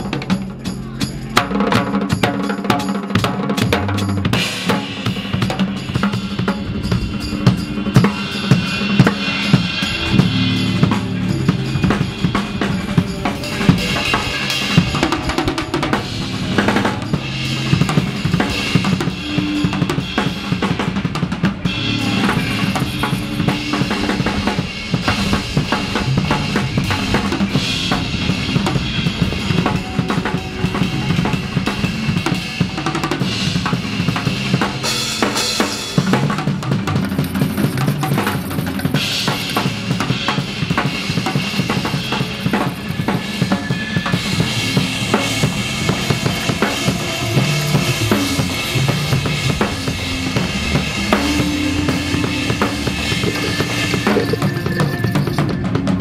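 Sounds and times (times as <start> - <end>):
music with drum-kit beat: 0.0 - 56.0.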